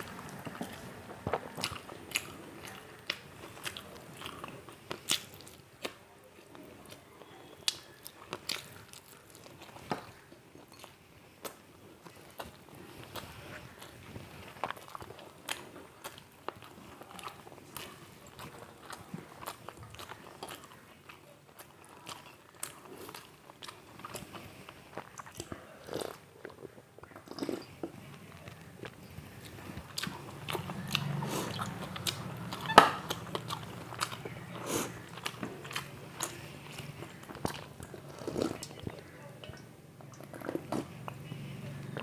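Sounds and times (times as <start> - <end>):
chewing and crunching: 0.0 - 42.0.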